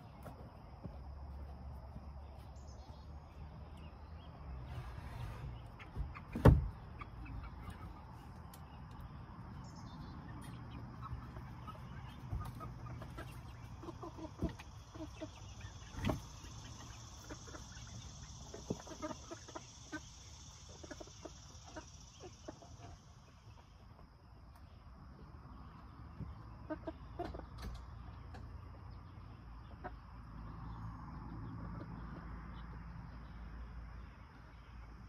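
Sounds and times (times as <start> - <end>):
chickens clucking: 0.0 - 35.0
insects droning: 0.0 - 35.0.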